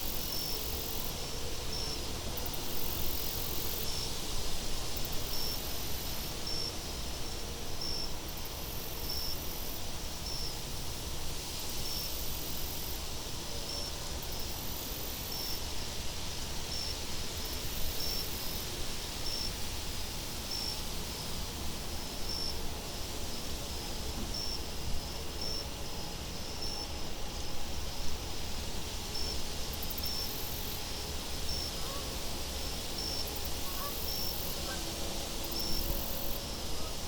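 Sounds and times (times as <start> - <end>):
crickets chirping: 0.0 - 37.0
high insect trills: 0.0 - 37.0.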